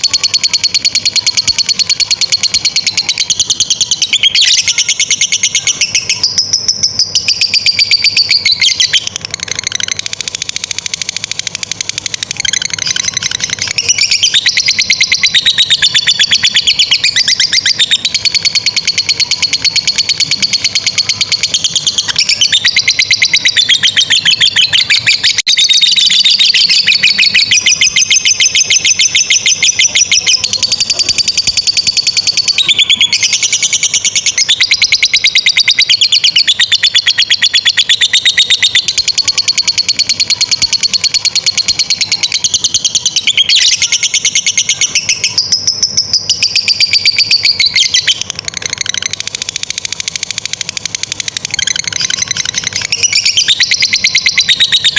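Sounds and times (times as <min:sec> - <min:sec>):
lovebird chattering: 0:00.0 - 0:54.9.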